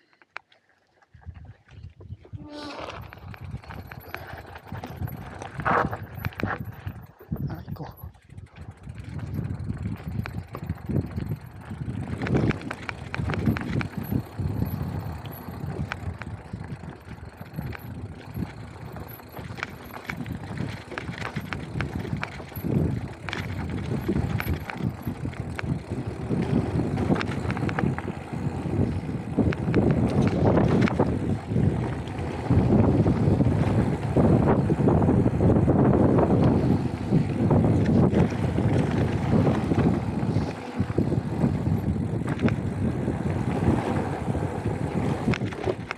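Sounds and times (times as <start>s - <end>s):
bike rattling and clattering: 2.4s - 45.9s.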